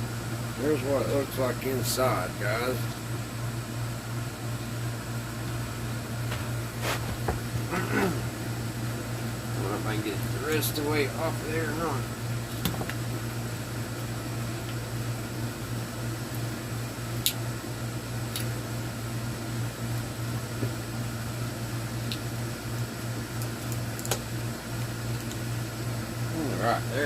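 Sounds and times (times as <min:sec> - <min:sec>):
air conditioner humming: 0:00.0 - 0:27.0.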